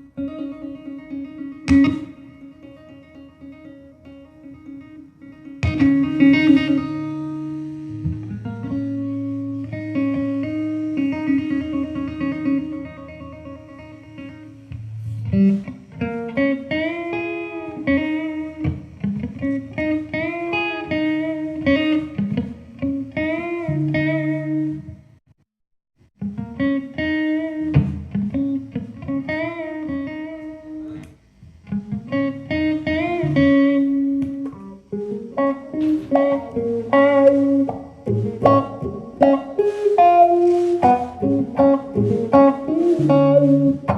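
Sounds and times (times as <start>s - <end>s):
guitar melody with bending notes: 0.0s - 25.2s, 26.2s - 43.9s
low guitar accompaniment: 0.0s - 25.2s, 26.1s - 43.9s.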